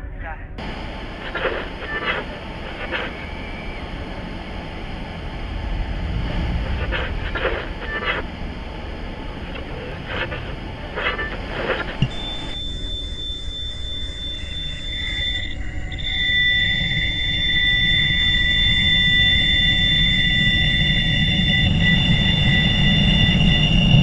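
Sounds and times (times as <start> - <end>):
low rumble: 0.0 - 24.0
crackling buzzy pulses: 0.6 - 24.0
hissing drone: 0.6 - 24.0.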